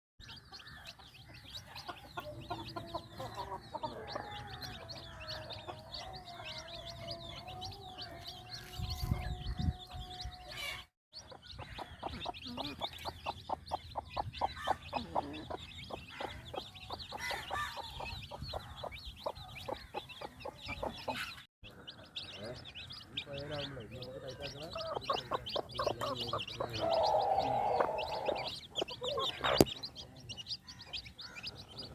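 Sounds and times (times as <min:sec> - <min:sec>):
chicks peeping: 0:00.2 - 0:31.9
hen clucking: 0:00.2 - 0:31.9.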